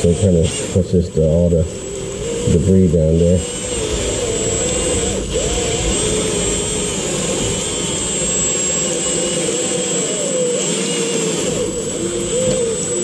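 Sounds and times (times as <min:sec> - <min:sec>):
drill motor whine: 0:00.0 - 0:13.0.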